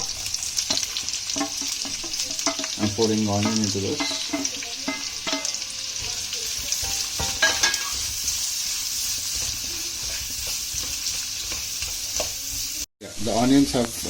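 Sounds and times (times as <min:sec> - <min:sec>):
onions sizzling in a frying pan: 0:00.0 - 0:14.0.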